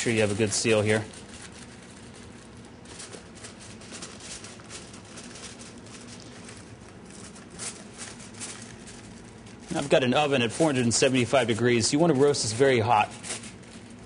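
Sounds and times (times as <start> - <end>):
wrapping crinkling and rustling: 0.0 - 14.0.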